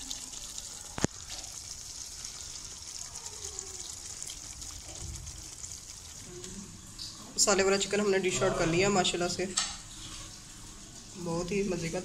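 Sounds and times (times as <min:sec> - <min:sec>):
curry sizzling in oil: 0:00.0 - 0:12.0.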